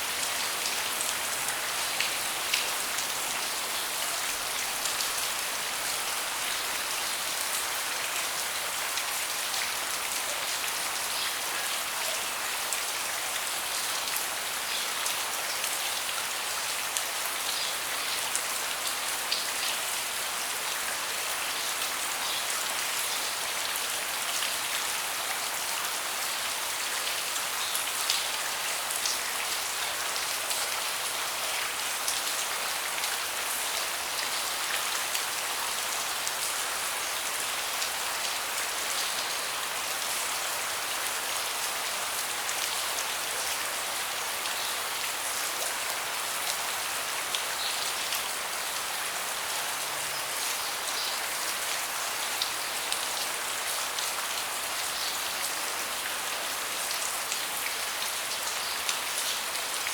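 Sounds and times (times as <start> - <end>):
rain falling on a deck: 0.0 - 59.9.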